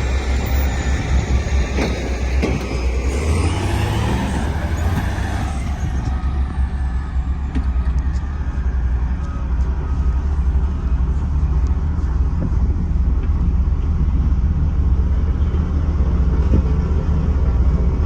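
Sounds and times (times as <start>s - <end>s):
road roller engine rumbling: 0.0s - 18.0s.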